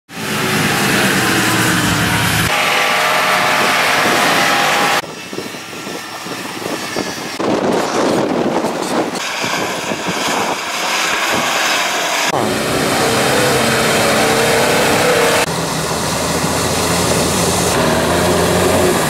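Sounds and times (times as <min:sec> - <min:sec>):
off-road vehicle engines running: 0:00.1 - 0:19.0.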